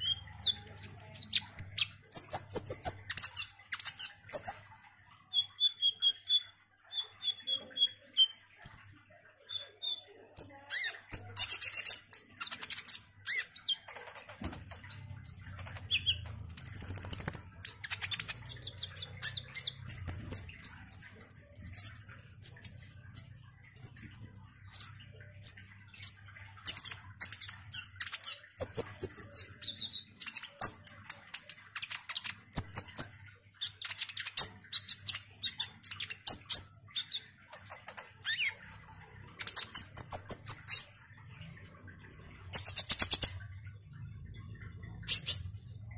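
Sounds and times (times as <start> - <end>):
bird singing chirps and trills: 0.0 - 45.9.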